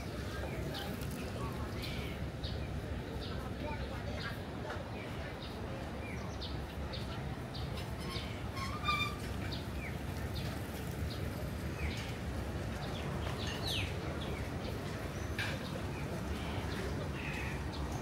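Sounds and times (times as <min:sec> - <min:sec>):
low outdoor background noise: 0:00.0 - 0:18.0
small birds chirping: 0:00.0 - 0:18.0.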